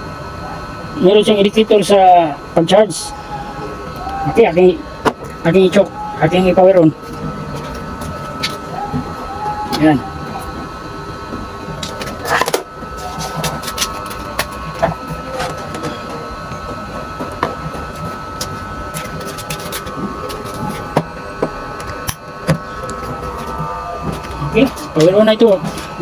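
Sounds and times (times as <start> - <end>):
high electronic whine: 0.0 - 26.0.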